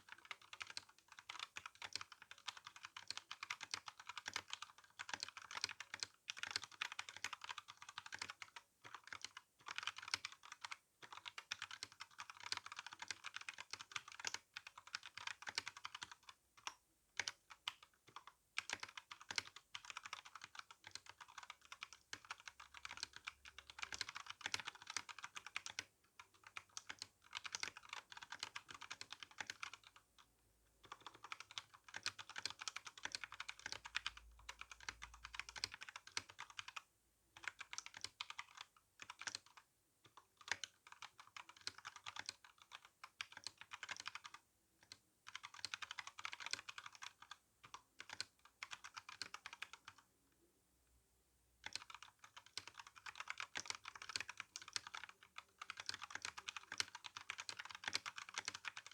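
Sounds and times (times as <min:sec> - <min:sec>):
mechanical keyboard typing: 0:00.0 - 0:30.0, 0:30.8 - 0:50.1, 0:51.6 - 0:58.9.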